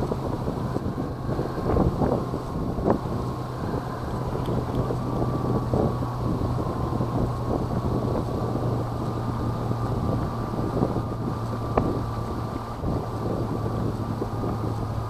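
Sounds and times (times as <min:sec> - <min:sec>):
low mechanical hum: 0:00.0 - 0:15.0
wind buffeting microphone: 0:00.0 - 0:15.0.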